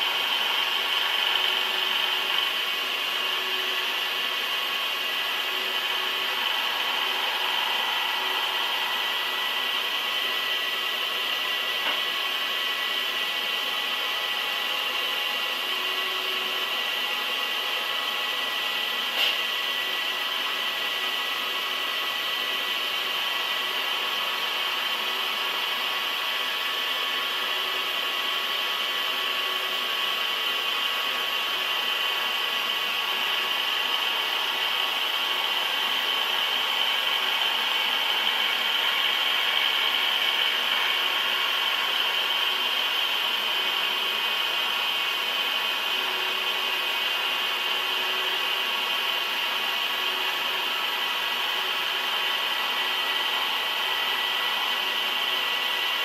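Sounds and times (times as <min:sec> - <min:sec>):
machine tool cutting metal: 0:00.0 - 0:56.0.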